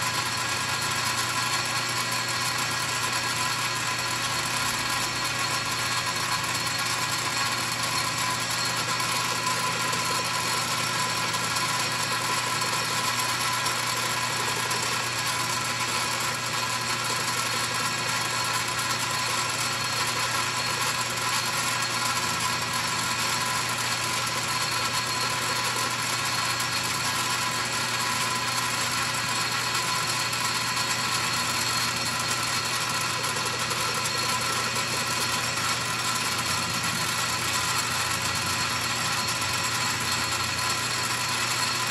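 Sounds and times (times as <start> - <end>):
metal lathe running: 0.0 - 41.9.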